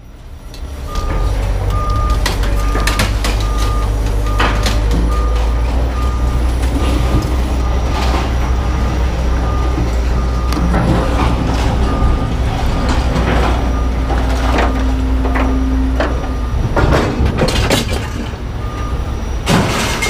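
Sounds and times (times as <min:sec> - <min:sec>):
high alarm beeping: 0:00.8 - 0:17.1.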